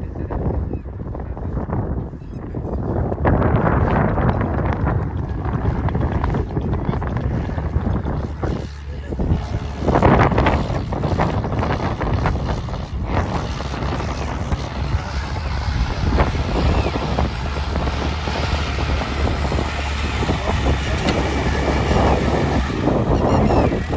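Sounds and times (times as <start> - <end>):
tractor engine running: 1.1 - 23.9
harrow discs working soil: 3.2 - 23.9.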